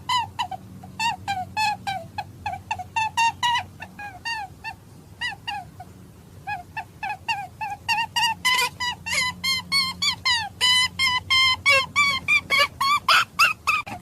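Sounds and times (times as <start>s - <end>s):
hare squeaking calls: 0.0s - 14.0s.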